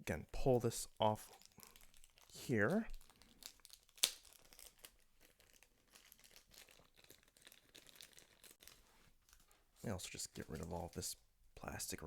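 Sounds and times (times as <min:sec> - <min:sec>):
plastic packaging crinkling: 0:01.1 - 0:11.2.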